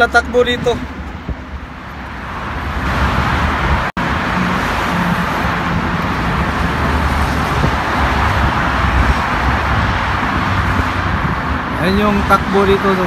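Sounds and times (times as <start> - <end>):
highway traffic rushing past: 0.0 - 13.0.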